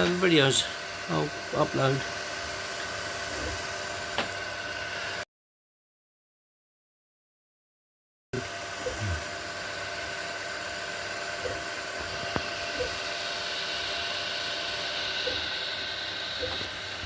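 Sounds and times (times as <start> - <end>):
printer fans and motors whining: 0.0 - 5.2, 8.4 - 17.0.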